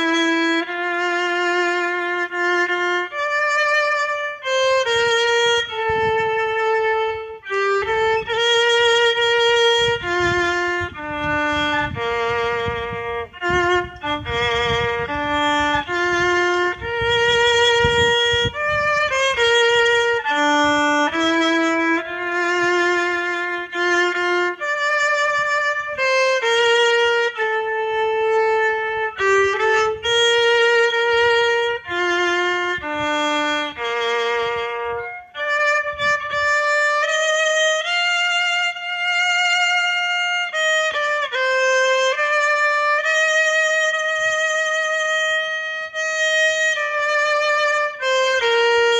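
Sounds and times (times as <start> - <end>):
solo violin slow melody: 0.0 - 48.9.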